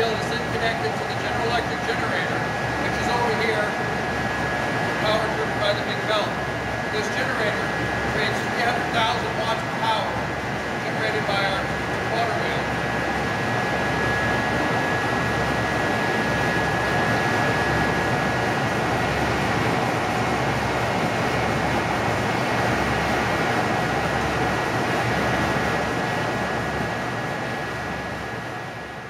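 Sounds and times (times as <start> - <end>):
generator machine noise: 0.0 - 29.0
high whine: 0.0 - 29.0.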